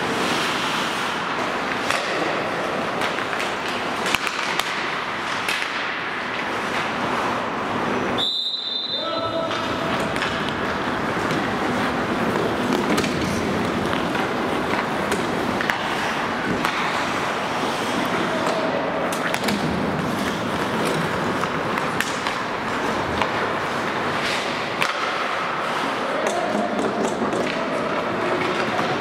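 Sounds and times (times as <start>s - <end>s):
skate blades scraping ice: 0.0s - 8.2s, 9.3s - 29.0s
hockey sticks and puck clacking: 0.0s - 29.0s.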